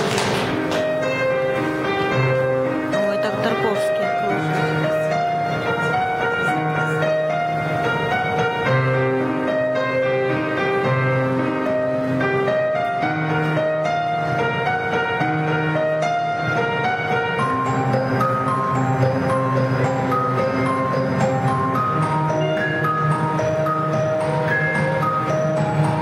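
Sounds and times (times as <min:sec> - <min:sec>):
live band with electronic keyboard: 0:00.0 - 0:26.0.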